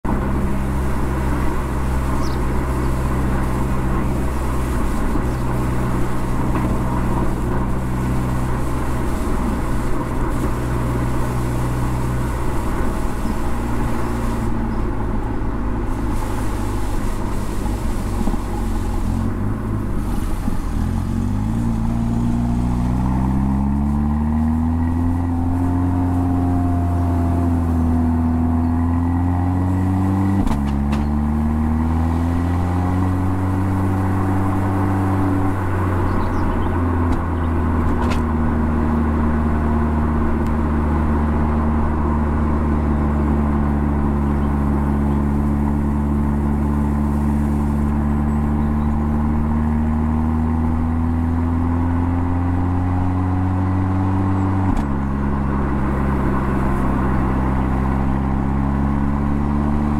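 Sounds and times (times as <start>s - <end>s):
car engine and exhaust: 0.0s - 59.9s
road noise: 0.0s - 59.9s.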